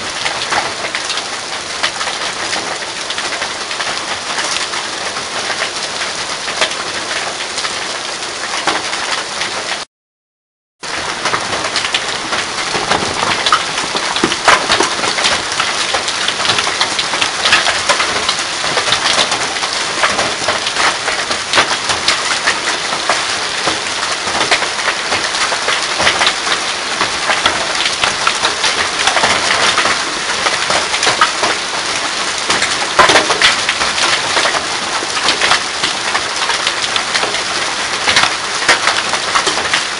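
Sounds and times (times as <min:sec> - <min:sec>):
hail falling hard: 0:00.0 - 0:09.8, 0:10.9 - 0:39.9.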